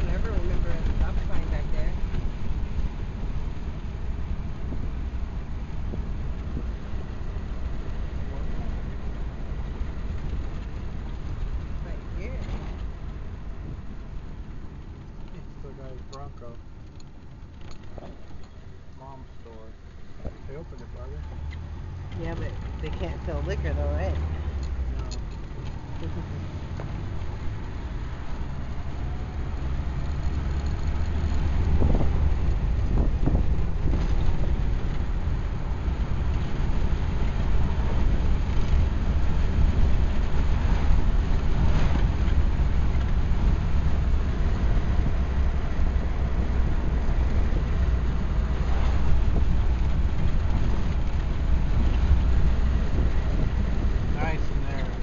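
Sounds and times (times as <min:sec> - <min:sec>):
four-cylinder car engine running: 0:00.0 - 0:55.0
road and wind noise: 0:00.0 - 0:55.0.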